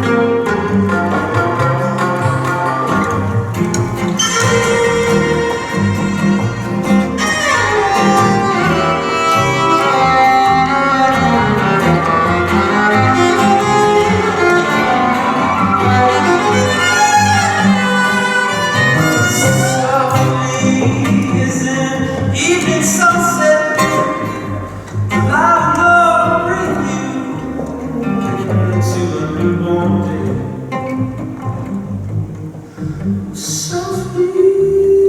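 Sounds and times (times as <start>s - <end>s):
bowed violin melody: 0.0s - 29.4s
bass: 0.0s - 35.0s
guitar: 0.0s - 35.0s.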